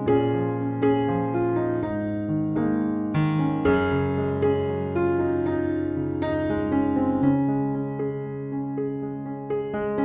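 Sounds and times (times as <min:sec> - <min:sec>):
slow soft piano music: 0:00.0 - 0:10.0.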